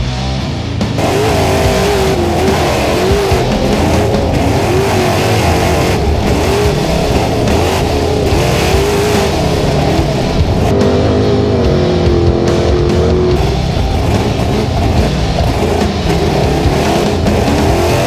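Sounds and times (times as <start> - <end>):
rock music: 0.0 - 18.0
truck engine revving: 0.0 - 18.0.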